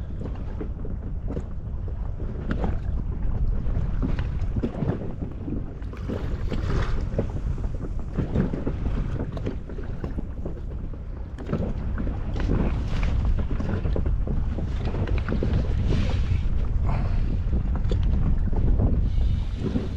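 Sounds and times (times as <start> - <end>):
water splashing against boat: 0.0 - 19.9
wind buffeting microphone: 0.0 - 19.9.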